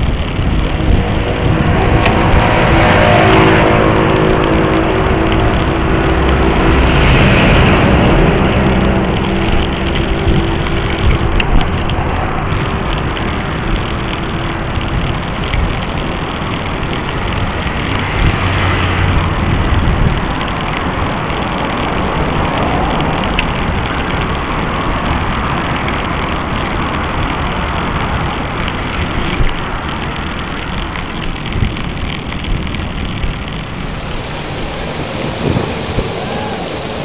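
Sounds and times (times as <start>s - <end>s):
bicycle tyres rolling on pavement: 0.0s - 37.0s
wind noise on microphone: 0.0s - 37.0s.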